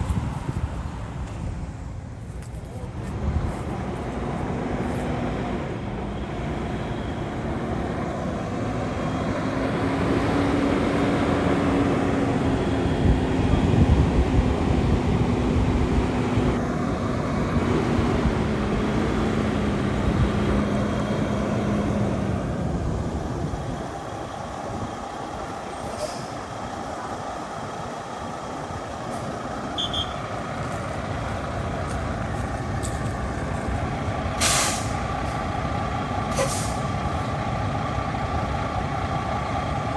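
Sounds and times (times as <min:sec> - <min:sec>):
truck diesel engine humming: 0:00.0 - 0:39.9.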